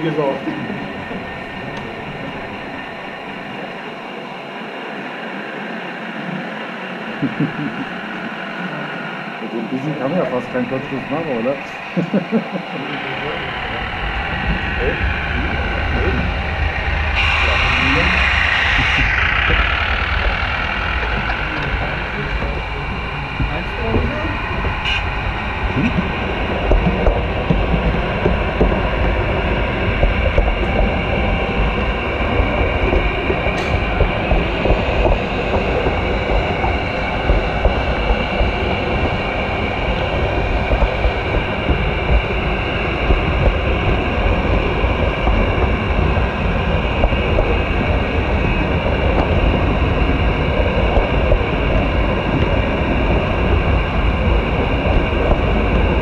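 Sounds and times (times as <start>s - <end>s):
model train wheels rumbling: 7.7s - 56.0s.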